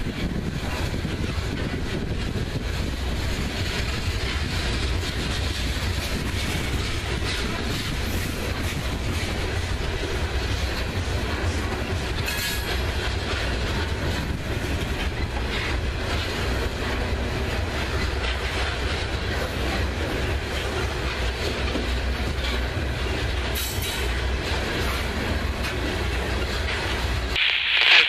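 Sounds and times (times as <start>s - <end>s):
wheels clattering over rail joints: 0.0s - 27.4s
freight train rumble: 0.0s - 28.0s.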